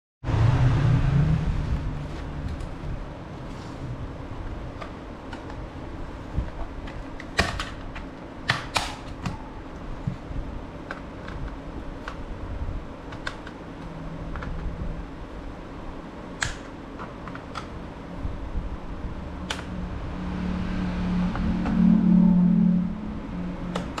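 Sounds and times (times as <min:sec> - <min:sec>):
low steady background rumble: 0:00.2 - 0:24.0.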